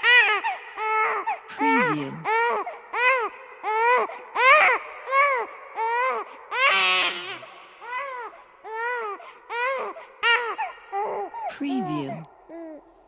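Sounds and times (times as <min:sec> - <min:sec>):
baby crying: 0:00.0 - 0:12.8.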